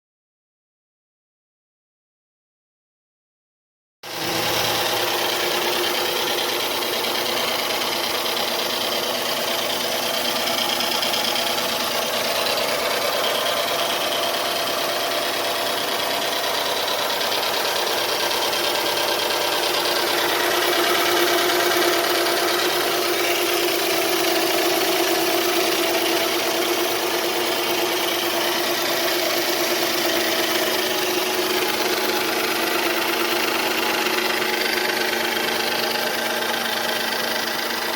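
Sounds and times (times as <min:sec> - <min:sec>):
car engine idling: 0:04.1 - 0:37.9
engine ticking: 0:04.1 - 0:37.9.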